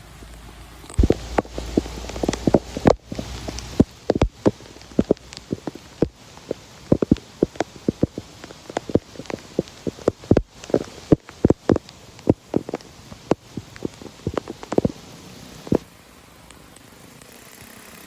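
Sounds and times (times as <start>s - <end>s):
water splashing and dripping: 0.0s - 15.9s
steady hiss of water: 0.0s - 18.0s.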